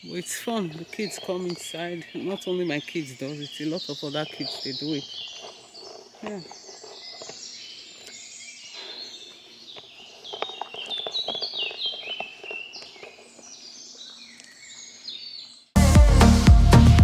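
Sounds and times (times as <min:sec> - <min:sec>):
songbirds singing: 0:00.0 - 0:15.9
footsteps crunching on path: 0:00.0 - 0:16.8.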